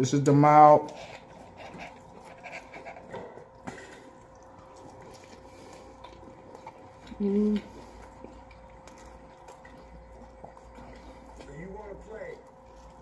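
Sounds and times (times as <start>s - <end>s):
chewing: 0.7s - 13.0s.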